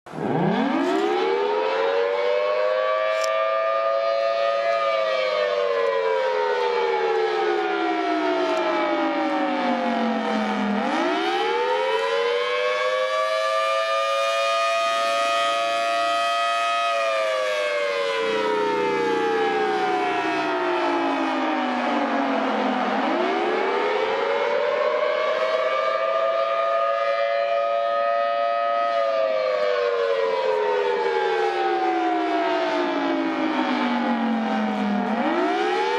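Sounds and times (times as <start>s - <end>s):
warning siren wailing: 0.1s - 35.9s.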